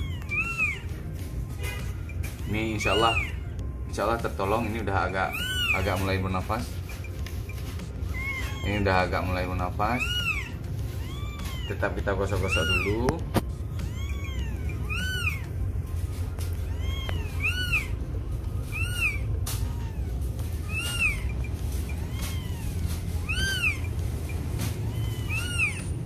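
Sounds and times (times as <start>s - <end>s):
kitten mewing: 0.0s - 6.8s, 8.0s - 26.0s.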